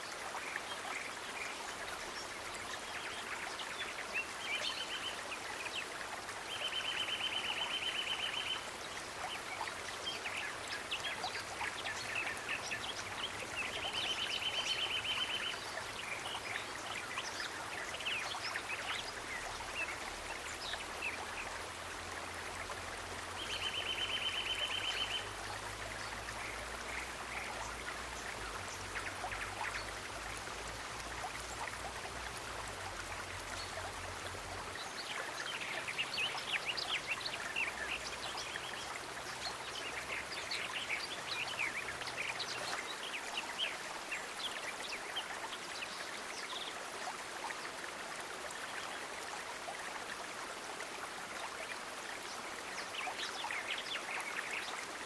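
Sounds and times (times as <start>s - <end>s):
small stream trickling and splashing: 0.0s - 55.0s.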